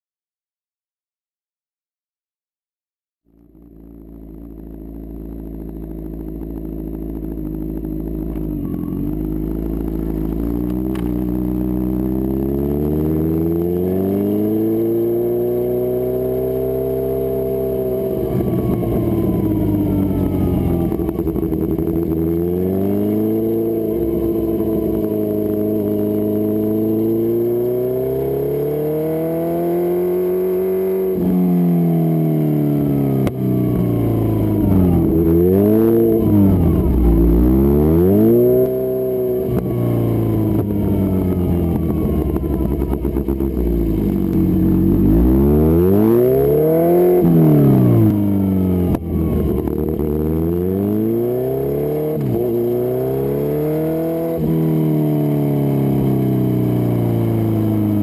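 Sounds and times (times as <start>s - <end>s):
motorcycle engine revving: 3.3s - 58.0s
exhaust crackling: 3.4s - 58.0s.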